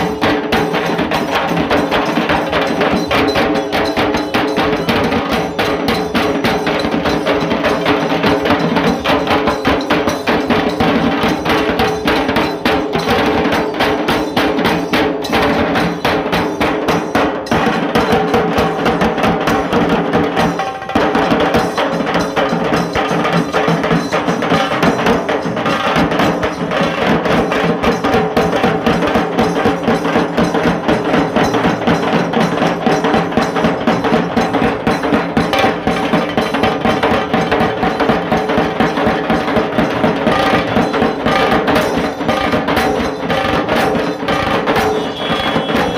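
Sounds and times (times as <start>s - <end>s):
drum band drumming: 0.0s - 45.9s
steady ringing tones: 0.0s - 45.9s.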